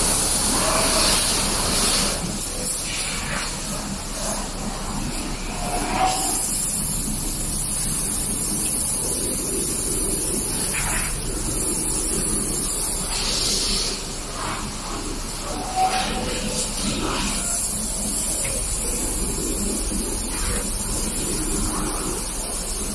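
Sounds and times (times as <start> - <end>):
panel bender machine hissing: 0.0 - 22.9.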